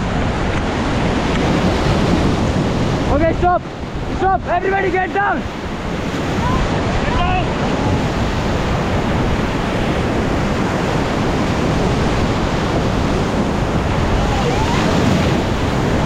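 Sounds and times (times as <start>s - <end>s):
whitewater rapid rushing: 0.0s - 16.0s.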